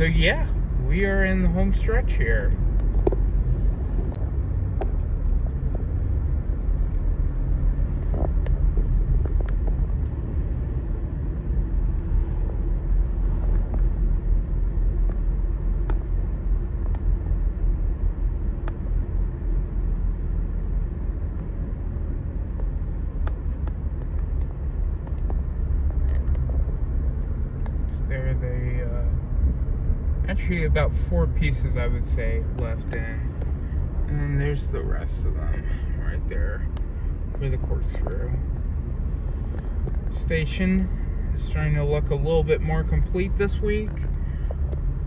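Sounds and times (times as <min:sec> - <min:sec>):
car tyre and engine rumble: 0:00.0 - 0:45.0.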